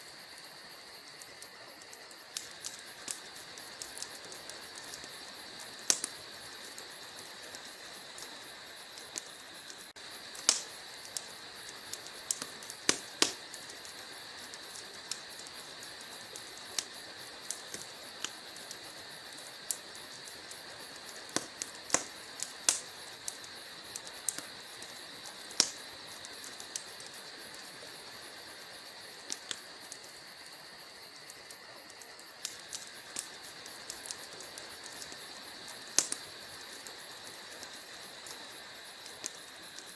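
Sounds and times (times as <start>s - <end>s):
steady fire hiss: 0.0s - 39.9s
wood fire crackling and popping: 0.1s - 39.9s.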